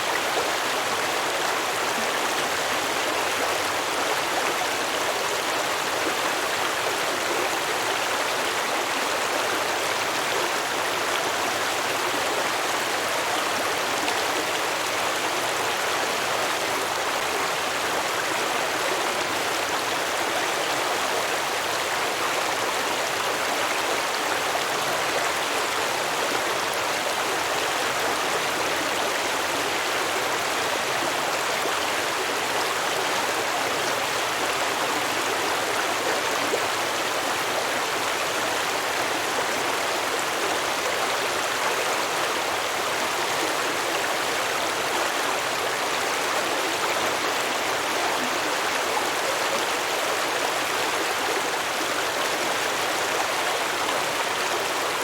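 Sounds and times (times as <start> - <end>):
stream babbling over rocks: 0.0 - 55.0.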